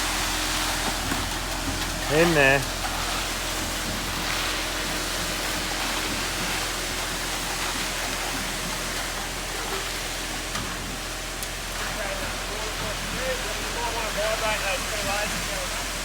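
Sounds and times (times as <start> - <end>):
wet concrete rushing down chute: 0.0 - 16.0.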